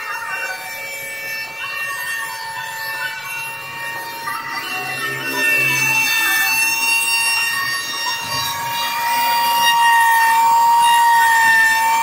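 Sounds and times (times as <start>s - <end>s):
router motor whine: 0.0s - 12.0s.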